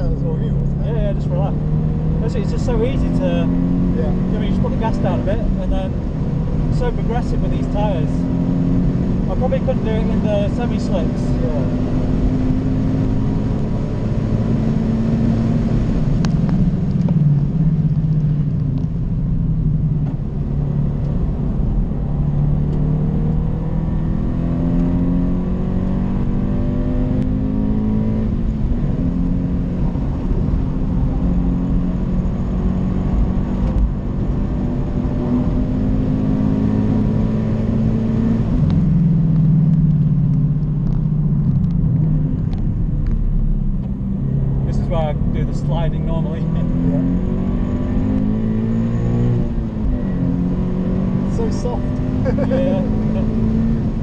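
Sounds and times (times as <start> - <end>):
car engine revving through gears: 0.0 - 54.0
tyre and road rumble: 0.0 - 54.0.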